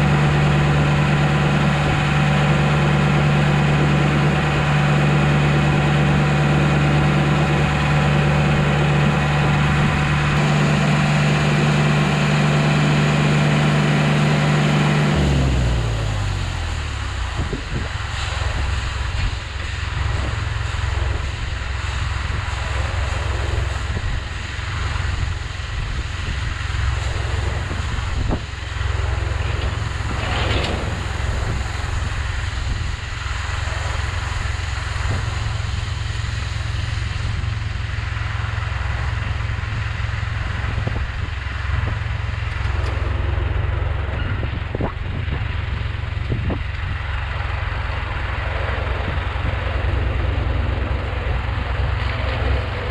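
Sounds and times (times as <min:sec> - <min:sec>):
diesel farm machine droning: 0:00.0 - 0:52.9.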